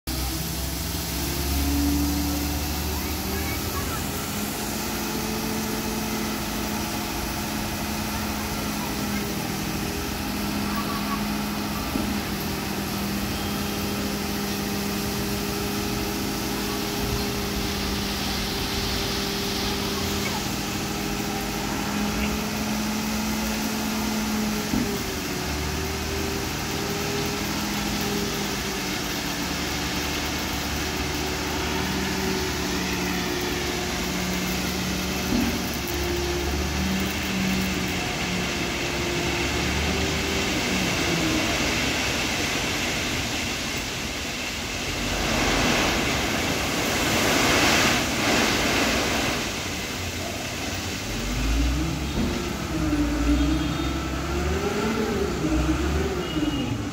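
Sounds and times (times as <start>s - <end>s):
truck diesel engine running: 0.1s - 56.9s.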